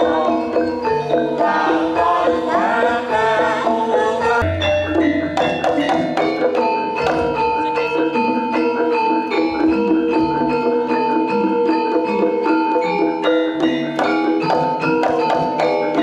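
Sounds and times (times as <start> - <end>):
gamelan metal percussion: 0.0 - 16.0.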